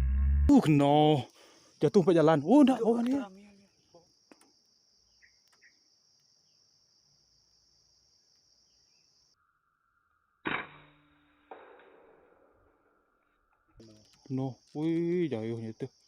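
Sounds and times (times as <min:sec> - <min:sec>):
faint chirps: 0:00.0 - 0:10.4, 0:11.7 - 0:16.0
insects buzzing: 0:00.5 - 0:10.4, 0:11.5 - 0:16.0.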